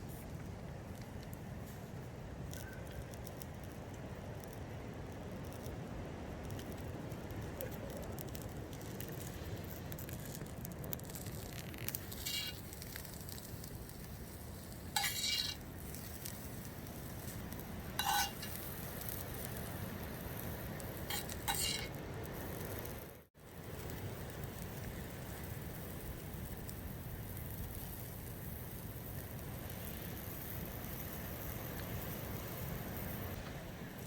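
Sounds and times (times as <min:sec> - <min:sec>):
vegetables sizzling over campfire: 0:00.0 - 0:34.0.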